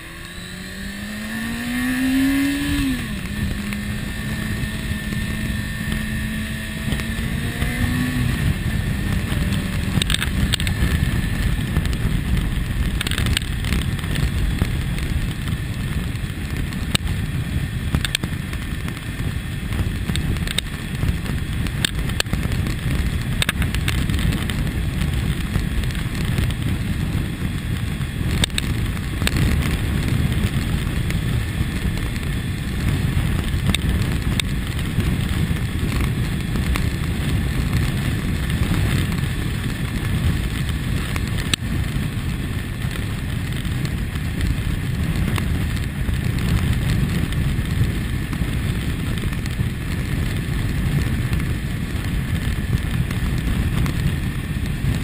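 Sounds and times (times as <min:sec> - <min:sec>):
motorcycle engine running: 0:00.0 - 0:55.0
road noise: 0:00.0 - 0:55.0
wind buffeting: 0:00.0 - 0:55.0.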